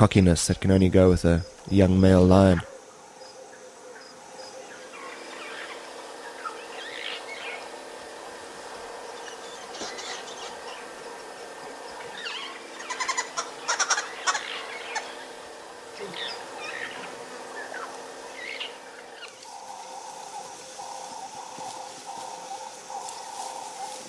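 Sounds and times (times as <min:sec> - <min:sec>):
rapid rattling bird calls: 0:00.0 - 0:24.0
wild birds calling and chirping: 0:00.0 - 0:24.0
lower bird call: 0:03.2 - 0:24.0.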